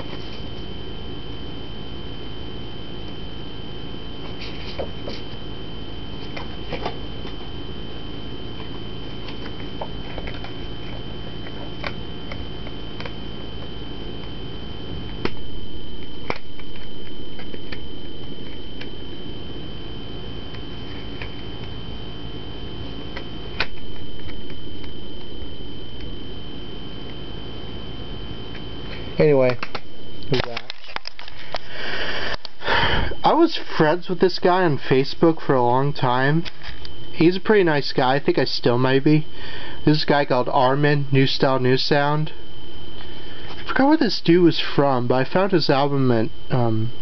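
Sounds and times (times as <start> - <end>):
high-pitched whine: 0.0 - 47.0
steady low hum: 0.0 - 47.0.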